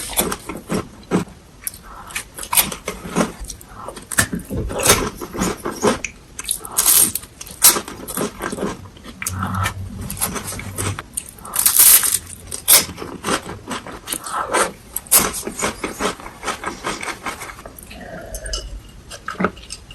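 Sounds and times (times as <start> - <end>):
crunchy biting and chewing: 0.0 - 19.8.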